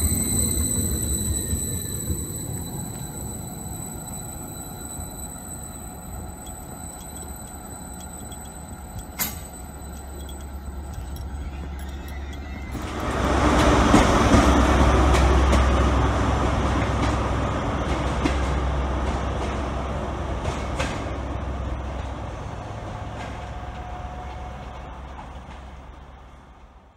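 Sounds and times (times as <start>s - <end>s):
diesel train passing: 0.0s - 26.9s.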